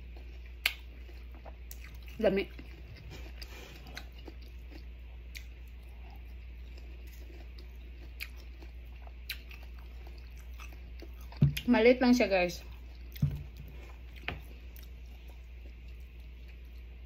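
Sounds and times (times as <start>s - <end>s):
person chewing: 0.0s - 11.7s, 12.6s - 17.0s.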